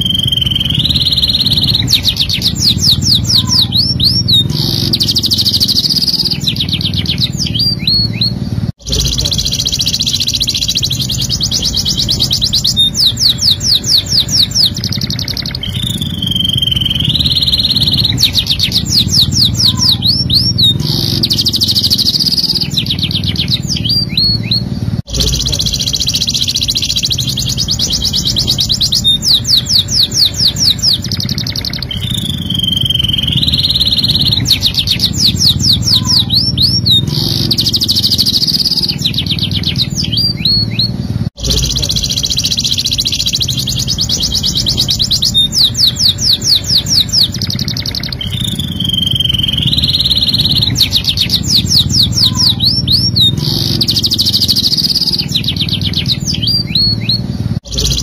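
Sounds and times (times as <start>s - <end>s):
canary singing trills: 0.0s - 58.0s
low background hum: 0.0s - 58.0s.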